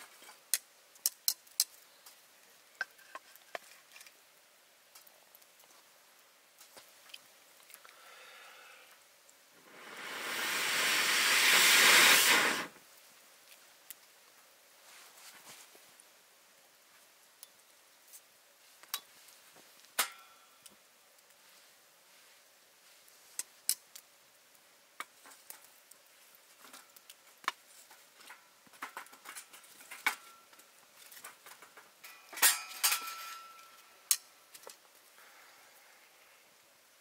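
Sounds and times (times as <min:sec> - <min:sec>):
wood fire crackling and popping: 0:00.0 - 0:08.0, 0:08.9 - 0:21.4, 0:22.8 - 0:35.2.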